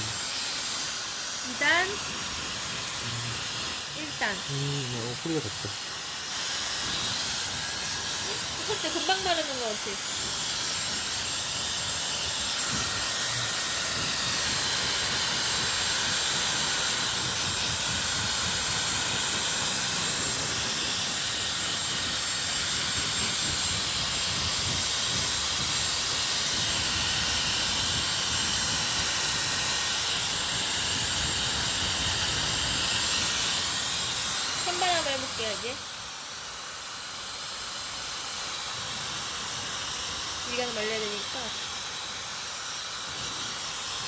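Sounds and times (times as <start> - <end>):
hair dryer running: 0.0 - 44.0.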